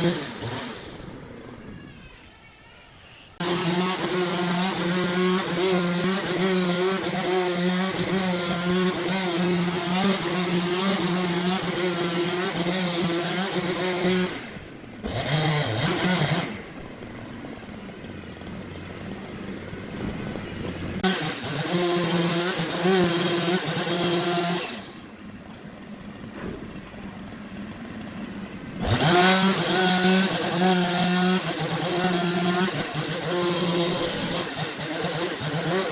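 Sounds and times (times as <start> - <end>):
motor running loud: 3.4 - 35.9.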